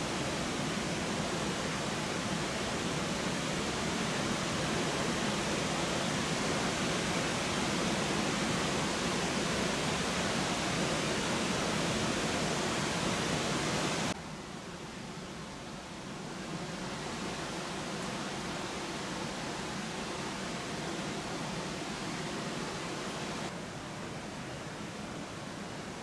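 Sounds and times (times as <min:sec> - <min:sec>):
waterfall rushing: 0:00.0 - 0:14.2, 0:15.8 - 0:26.0.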